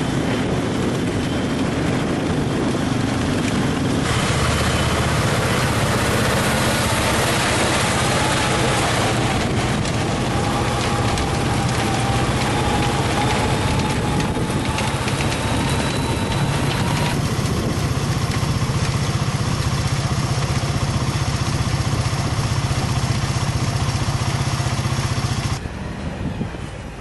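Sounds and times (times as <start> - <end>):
harvesting machine engine: 0.0 - 25.7.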